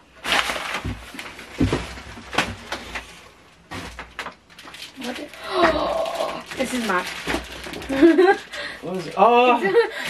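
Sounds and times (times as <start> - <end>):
paper and cardboard rustling: 0.1 - 9.5
packaging crinkles and knocks: 0.2 - 8.5.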